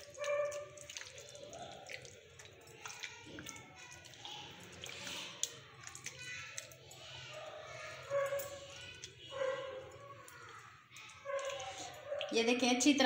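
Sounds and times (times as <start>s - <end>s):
wet squelching of batter: 0.0s - 12.6s.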